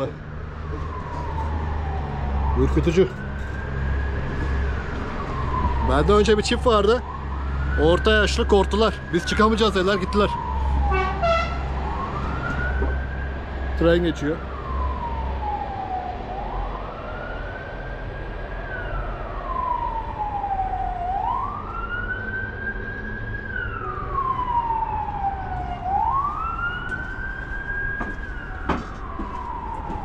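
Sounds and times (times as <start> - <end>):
emergency vehicle siren wailing: 0.0 - 30.0.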